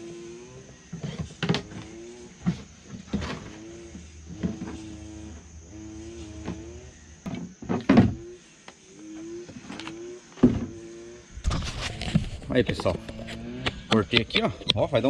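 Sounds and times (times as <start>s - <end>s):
power tool motor whining: 0.0s - 14.1s.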